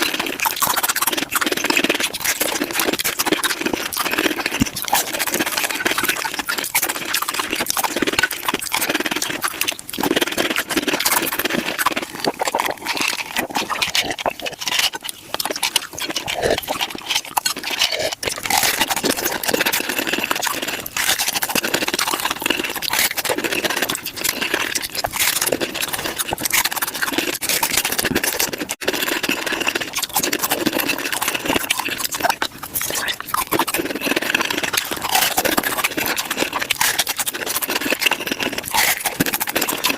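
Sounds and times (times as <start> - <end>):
rapid chewing crunches: 0.0 - 39.9.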